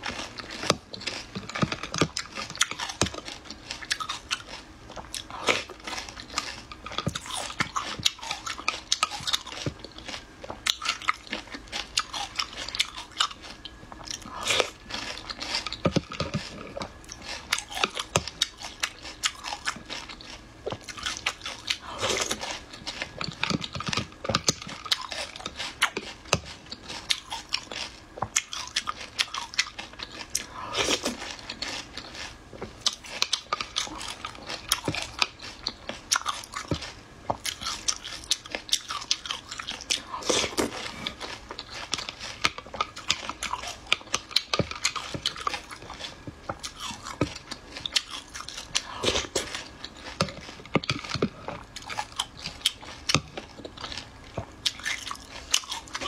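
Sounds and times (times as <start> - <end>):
chewing and crunching snails: 0.0 - 56.0.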